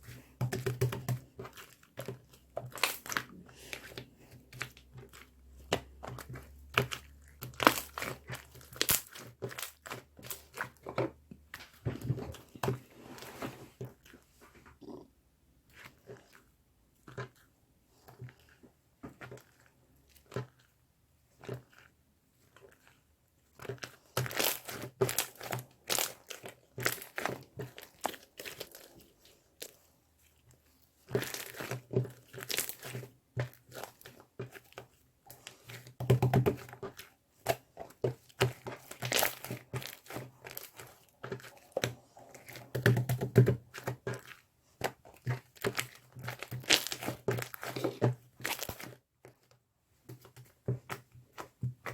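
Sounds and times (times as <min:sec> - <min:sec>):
crinkling and tearing: 0:00.1 - 0:14.2, 0:22.5 - 0:51.9.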